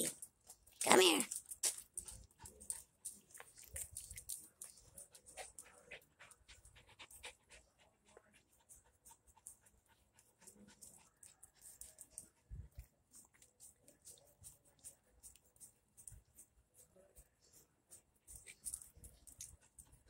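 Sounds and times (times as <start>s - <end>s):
dog panting: 1.8s - 17.2s, 17.9s - 20.0s.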